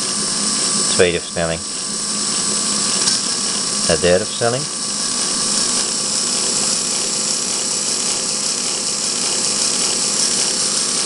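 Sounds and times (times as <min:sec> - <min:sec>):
small motor and gears whirring: 0:00.0 - 0:11.0.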